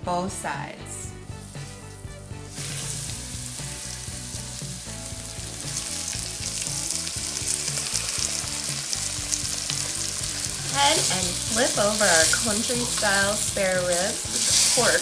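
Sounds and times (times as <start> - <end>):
ribs sizzling in hot oil: 1.3 - 15.0.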